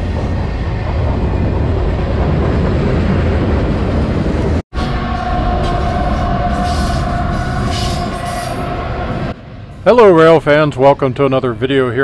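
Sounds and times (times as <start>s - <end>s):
train wheels rumbling on rail: 0.0s - 10.8s.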